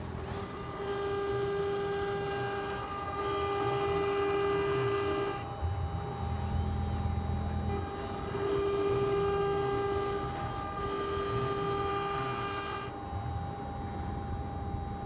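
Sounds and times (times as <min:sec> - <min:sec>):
low machine hum: 0:00.0 - 0:15.0
router spindle high whine: 0:00.0 - 0:15.0.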